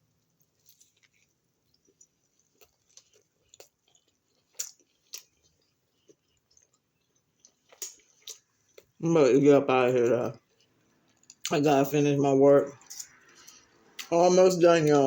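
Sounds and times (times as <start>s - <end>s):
chewing food: 0.4s - 9.0s, 9.8s - 11.7s, 12.6s - 15.0s.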